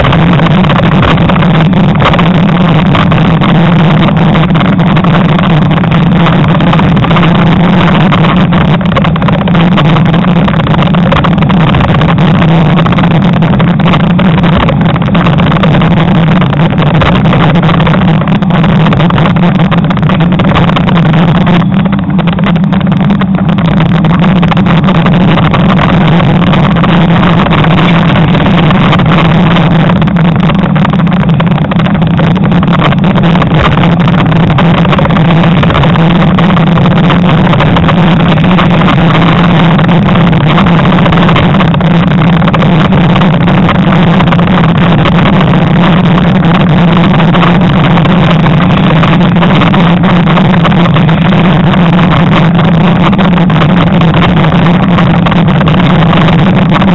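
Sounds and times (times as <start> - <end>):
road rumble: 0.0 - 56.9
wind rush on microphone: 0.0 - 56.9.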